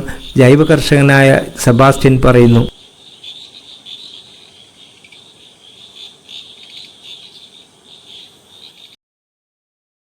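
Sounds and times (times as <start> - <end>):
insects trilling: 0.0 - 9.0.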